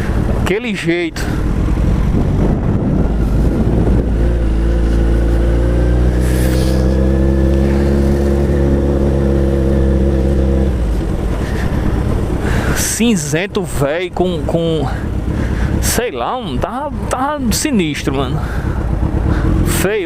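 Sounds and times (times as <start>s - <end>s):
engine rumble: 0.0s - 20.0s
loud motorcycle engine: 0.0s - 20.0s.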